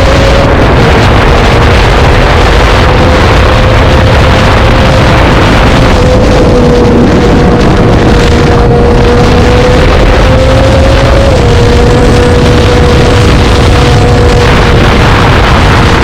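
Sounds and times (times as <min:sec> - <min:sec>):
motorcycle engine running loud: 0:00.0 - 0:16.0.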